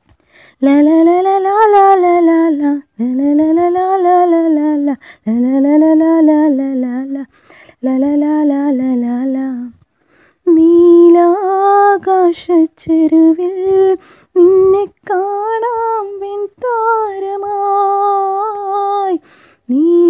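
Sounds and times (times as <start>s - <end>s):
woman singing wordless melody: 0.4s - 20.0s.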